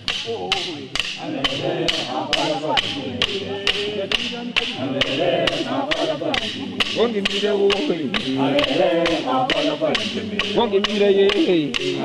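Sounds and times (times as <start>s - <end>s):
sharp percussion strikes: 0.0s - 12.0s
voices singing: 0.0s - 12.0s.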